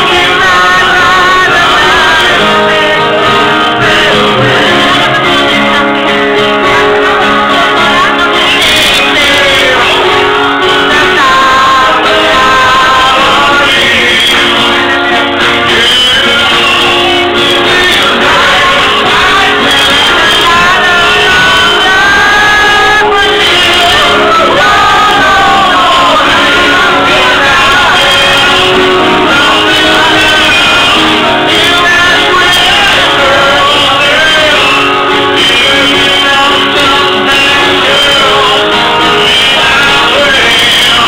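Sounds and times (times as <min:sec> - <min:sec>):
guitar accompaniment: 0:00.0 - 0:41.0
man singing into a microphone: 0:00.0 - 0:41.0
people singing along: 0:00.0 - 0:41.0.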